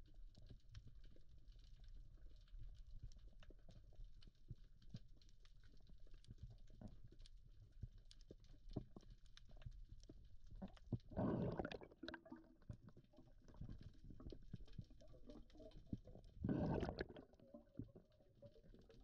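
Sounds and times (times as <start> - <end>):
underwater clicks and crackles: 0.0 - 19.0.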